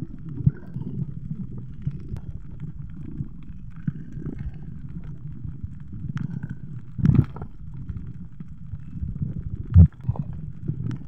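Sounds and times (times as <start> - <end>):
underwater rumble: 0.0 - 11.0.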